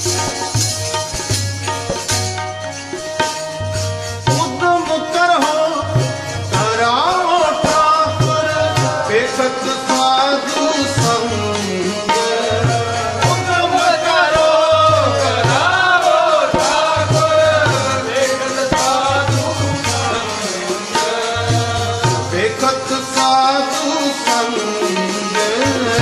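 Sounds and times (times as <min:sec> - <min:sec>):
tabla beating a rhythm: 0:00.0 - 0:26.0
man singing a hymn: 0:04.4 - 0:26.0.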